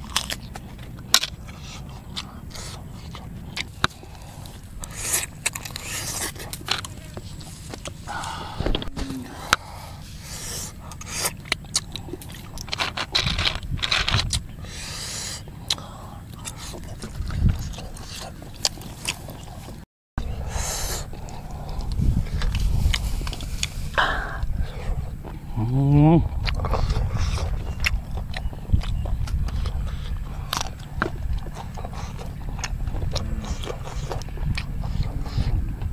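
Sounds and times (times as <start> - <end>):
chewing with wet mouth clicks: 0.0 - 8.4, 9.4 - 20.3, 21.0 - 25.6, 26.2 - 35.9
low rumble: 0.0 - 35.9.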